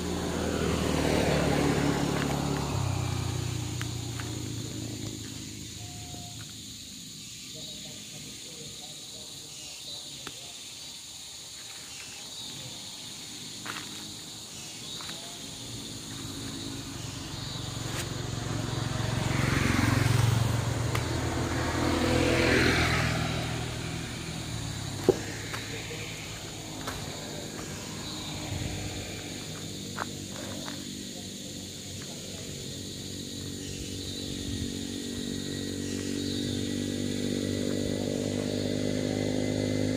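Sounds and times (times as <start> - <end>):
vehicle engine passing: 0.0 - 7.3, 12.5 - 39.9.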